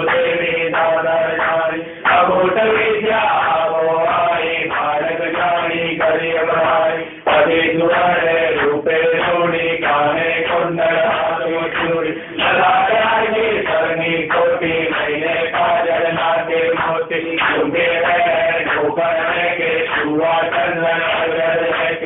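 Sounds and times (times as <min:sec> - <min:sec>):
person singing devotional chant: 0:00.0 - 0:22.0.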